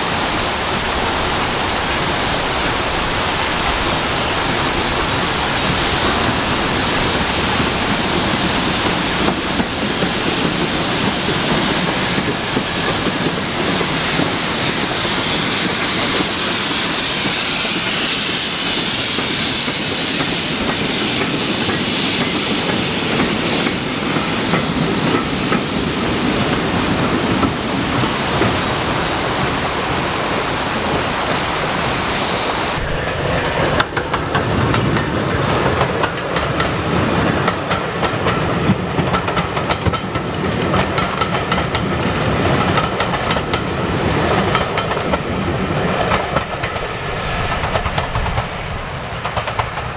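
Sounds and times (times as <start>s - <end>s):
steam hissing: 0.0s - 43.1s, 43.8s - 49.9s
train wheels clattering over rails: 0.0s - 49.9s.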